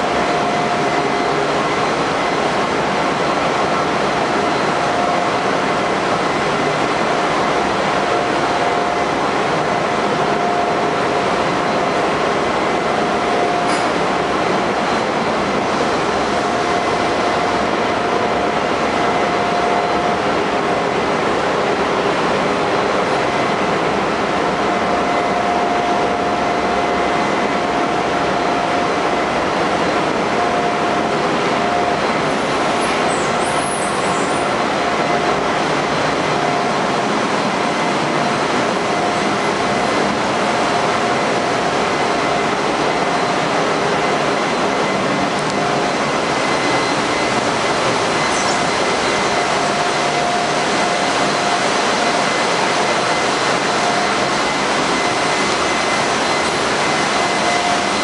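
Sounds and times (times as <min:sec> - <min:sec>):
engine room machinery roar: 0:00.0 - 0:58.0
steady machinery whine: 0:00.0 - 0:58.0.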